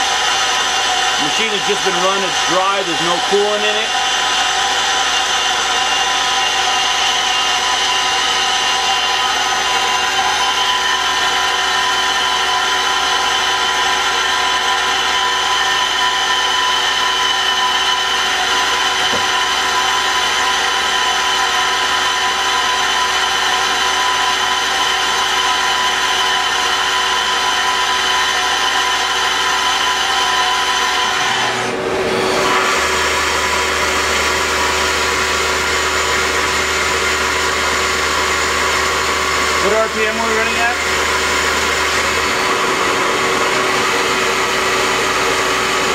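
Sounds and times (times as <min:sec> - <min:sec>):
lathe spindle whining: 0:00.0 - 0:45.9.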